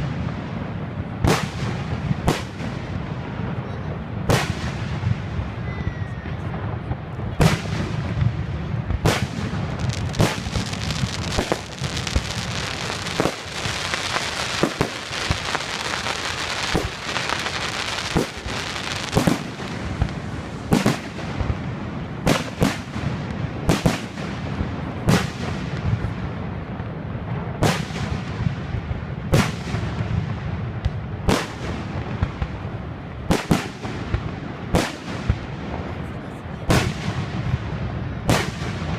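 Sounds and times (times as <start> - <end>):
fireworks bursting with bangs: 0.0 - 38.9
fireworks crackling: 0.0 - 38.9.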